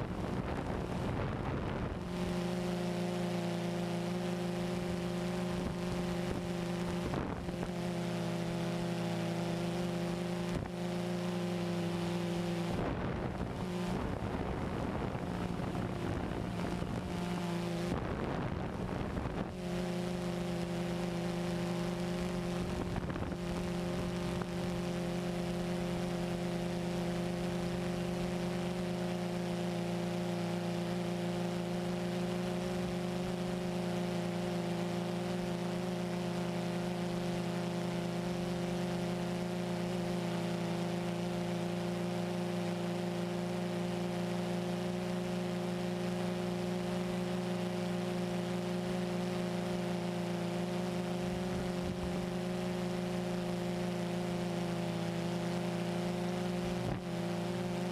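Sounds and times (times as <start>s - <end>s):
drone motors and propellers humming: 0.0s - 57.9s.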